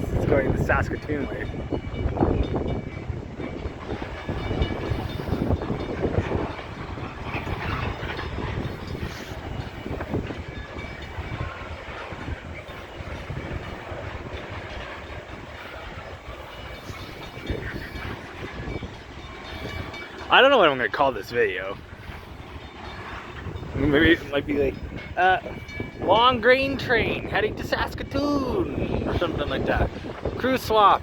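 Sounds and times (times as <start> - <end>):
freight train wheels clattering: 0.0 - 31.0.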